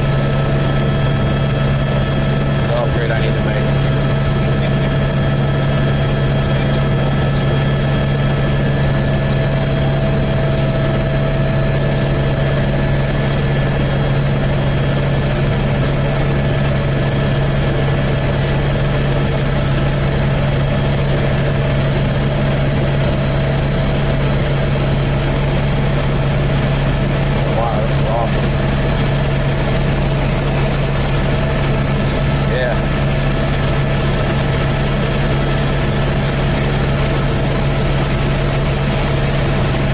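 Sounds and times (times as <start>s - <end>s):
helicopter drone and whine: 0.0s - 39.9s.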